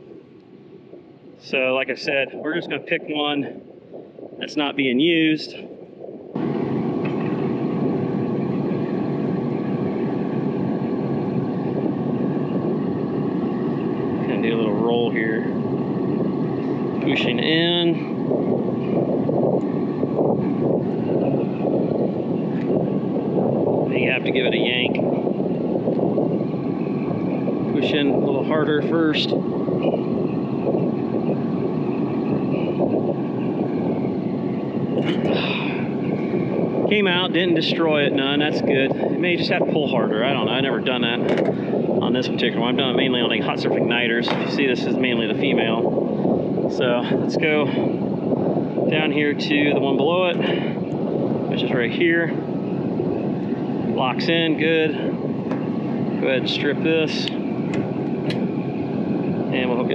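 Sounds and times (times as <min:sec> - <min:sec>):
air conditioning hum: 0:00.0 - 0:59.9.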